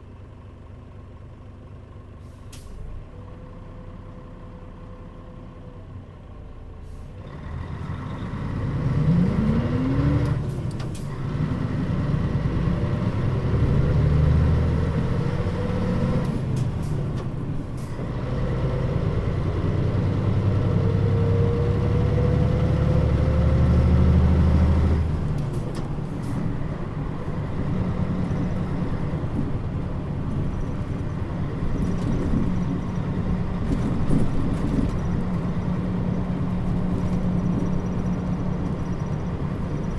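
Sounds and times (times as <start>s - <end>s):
bus engine accelerating: 0.0s - 39.9s.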